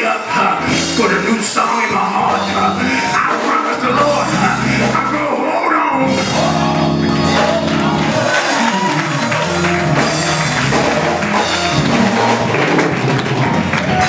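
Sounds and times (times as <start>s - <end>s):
gospel band music: 0.0s - 14.0s.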